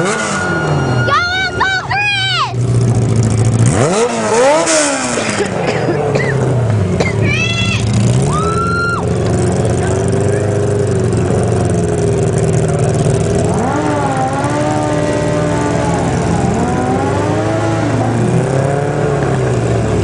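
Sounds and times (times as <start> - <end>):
motorcycle engine revving: 0.0 - 1.6, 2.4 - 20.0
motorcycle engines idling: 0.0 - 20.0.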